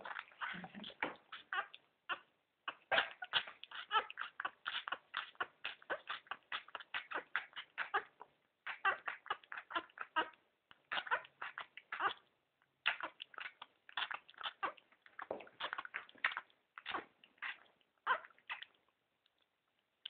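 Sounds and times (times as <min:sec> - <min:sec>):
puppy suckling at bottle: 0:00.0 - 0:20.0.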